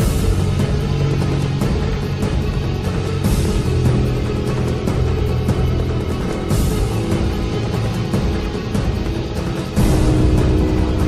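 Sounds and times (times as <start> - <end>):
held low notes: 0.0 - 11.0
percussion hits: 0.0 - 11.0.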